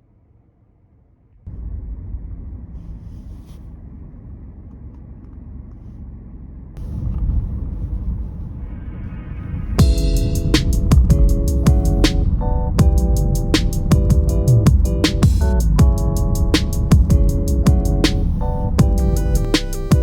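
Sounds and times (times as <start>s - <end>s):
car rumbling on the road: 1.4s - 20.0s.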